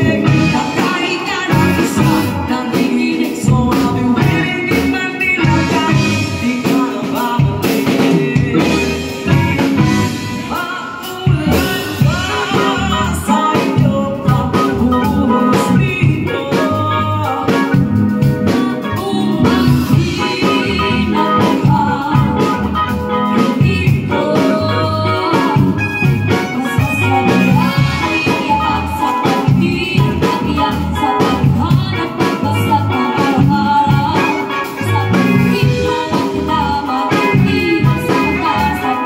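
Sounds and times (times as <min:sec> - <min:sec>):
live band playing: 0:00.0 - 0:39.0
woman and man singing duet: 0:00.0 - 0:39.0.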